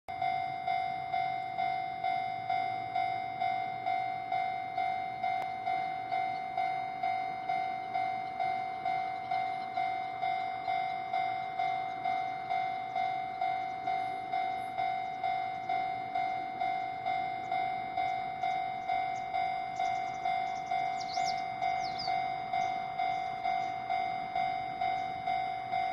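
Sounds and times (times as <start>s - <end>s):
level crossing warning bell: 0.1s - 25.9s.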